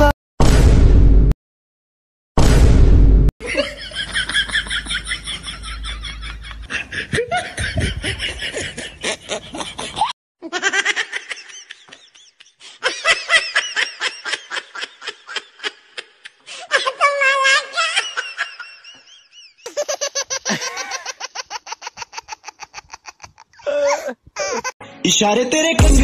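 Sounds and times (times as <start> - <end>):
woman laughing: 3.4 - 24.8.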